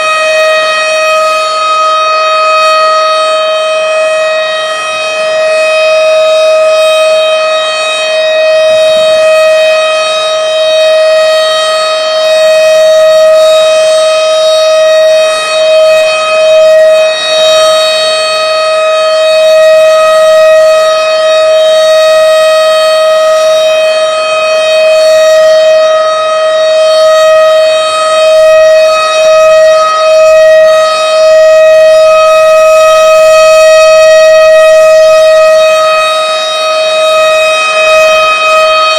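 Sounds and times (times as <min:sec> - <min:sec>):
tornado warning sirens: 0:00.0 - 0:38.9.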